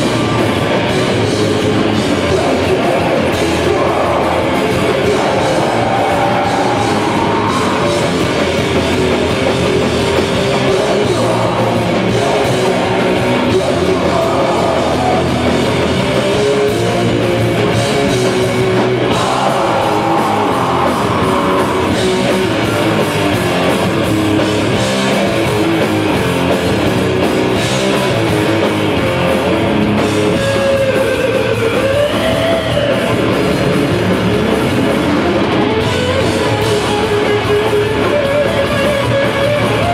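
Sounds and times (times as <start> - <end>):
distorted electric guitars: 0.0 - 39.9
drums: 0.0 - 39.9.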